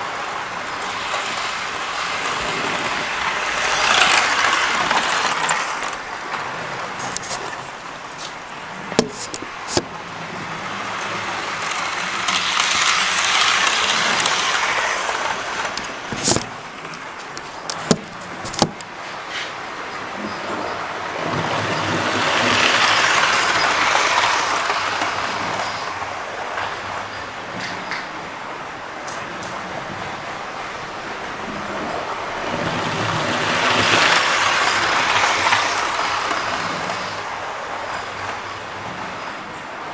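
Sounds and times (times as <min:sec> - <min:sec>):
model train running: 0:00.0 - 0:39.9.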